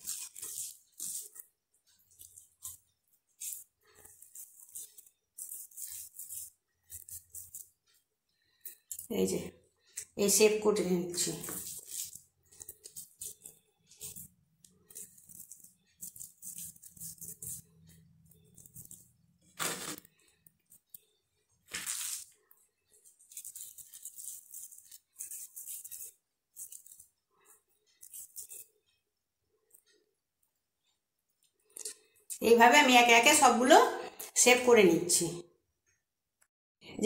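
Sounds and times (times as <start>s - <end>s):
hands shaping soft filling: 0.0s - 32.3s.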